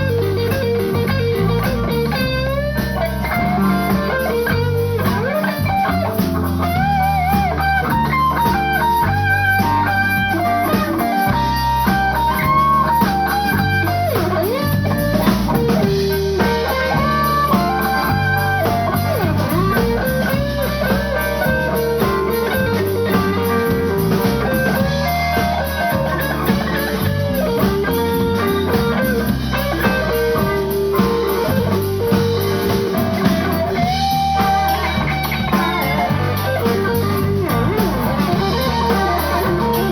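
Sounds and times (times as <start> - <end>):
bass guitar: 0.0 - 39.9
drums: 0.0 - 39.9
electric guitar lead: 0.0 - 39.9.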